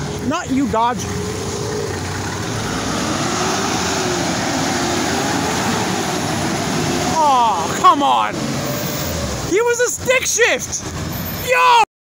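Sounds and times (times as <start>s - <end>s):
truck diesel engine: 0.0s - 11.8s
road and tyre noise: 0.0s - 11.9s.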